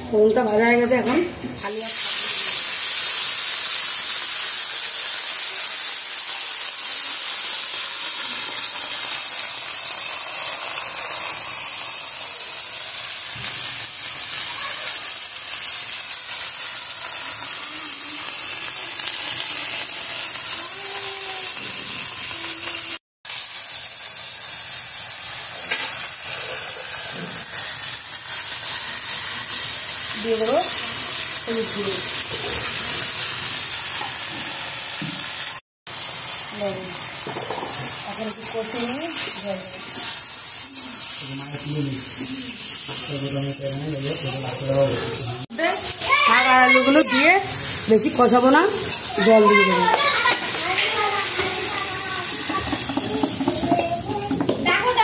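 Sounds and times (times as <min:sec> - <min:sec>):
vegetables sizzling in hot oil: 0:00.1 - 0:55.0.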